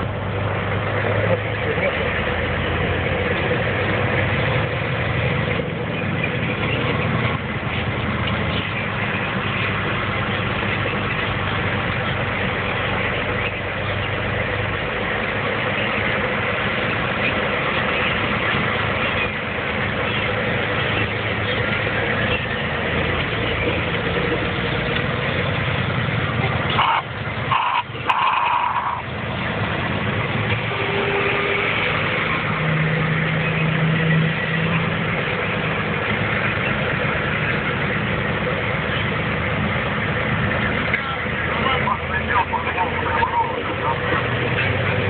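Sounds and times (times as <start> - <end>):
truck engine and road noise: 0.0 - 45.0.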